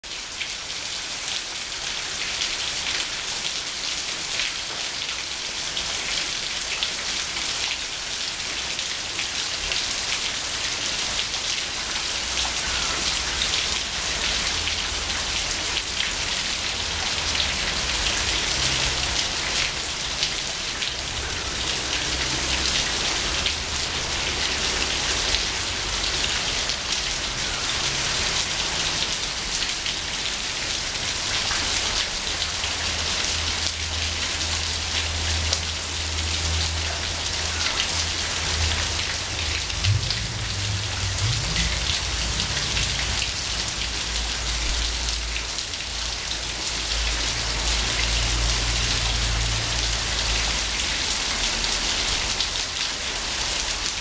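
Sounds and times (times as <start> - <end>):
rain on a tiled roof: 0.0 - 54.0
water dripping off gutter: 0.1 - 54.0.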